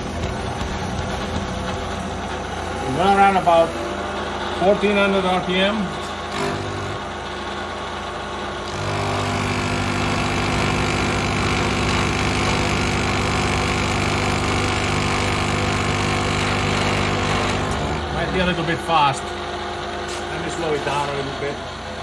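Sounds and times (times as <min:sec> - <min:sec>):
end mill cutting metal: 0:00.0 - 0:22.0
milling machine spindle running: 0:00.0 - 0:22.0.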